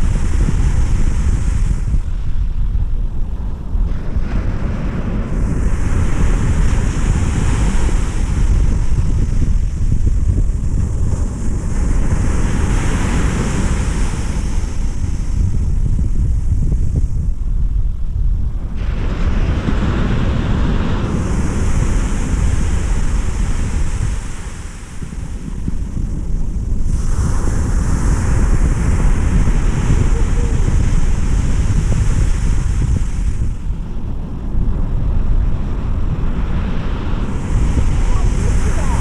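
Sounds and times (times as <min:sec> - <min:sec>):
breaking surf: 0:00.0 - 0:17.1, 0:18.6 - 0:39.0
wind buffeting the microphone: 0:00.0 - 0:39.0.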